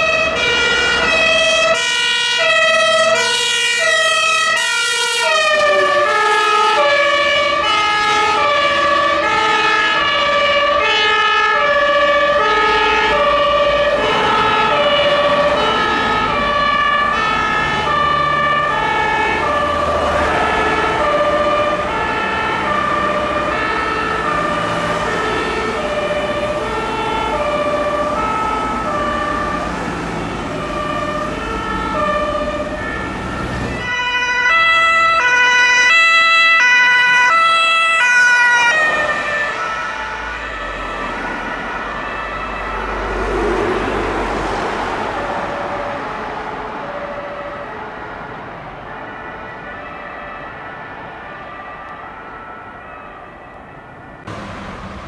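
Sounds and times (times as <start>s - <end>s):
close two-tone siren passing: 0.0s - 55.0s
traffic engine noise: 0.0s - 55.0s
two-tone sirens: 0.0s - 55.0s.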